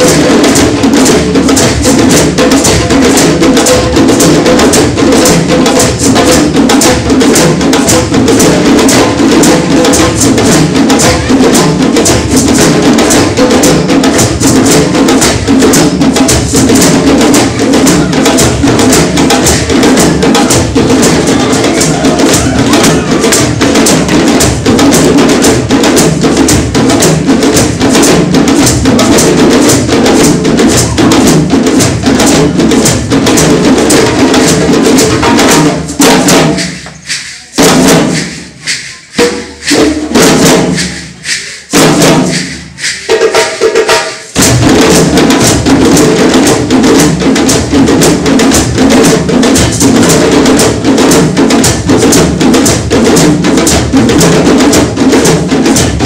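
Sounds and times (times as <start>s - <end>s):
hand drum ensemble playing: 0.0s - 56.0s.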